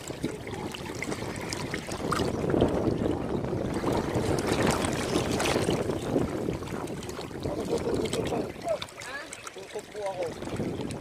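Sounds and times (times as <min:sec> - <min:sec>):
ocean waves washing onto beach: 0:00.0 - 0:11.0.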